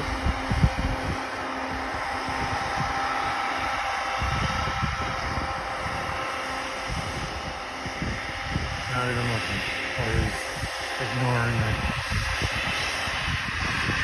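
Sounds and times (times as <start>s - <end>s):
locomotive engine drone: 0.0s - 14.0s
wind buffeting microphone: 0.0s - 14.0s.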